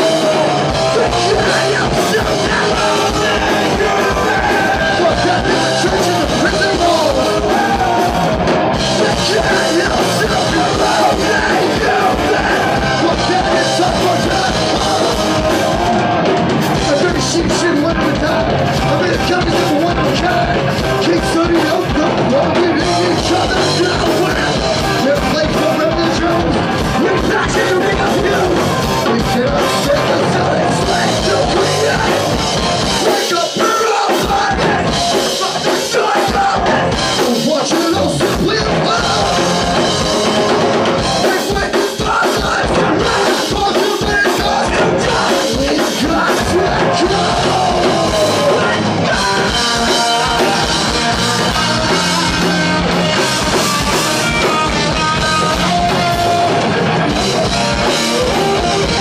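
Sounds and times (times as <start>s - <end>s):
punk rock band playing live: 0.0s - 59.0s
shouted singing: 0.0s - 59.0s.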